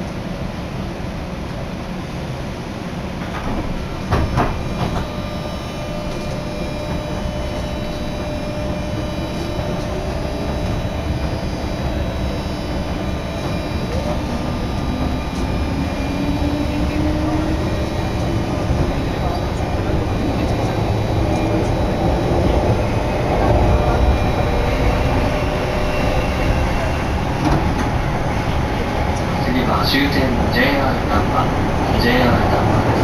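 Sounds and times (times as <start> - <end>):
train running rumble: 0.0 - 33.0
train wheels clacking: 3.2 - 33.0.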